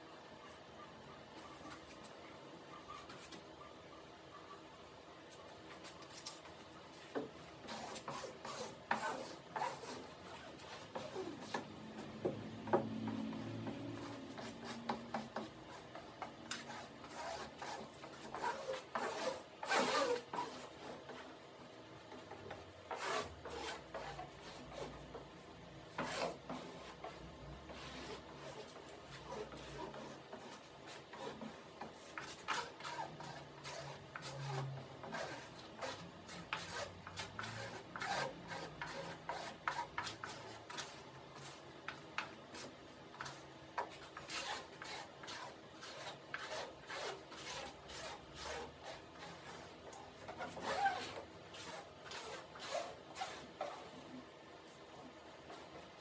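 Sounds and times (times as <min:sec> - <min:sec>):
rubbing and rustling of cloth and film: 0:01.3 - 0:03.6, 0:05.1 - 0:56.0.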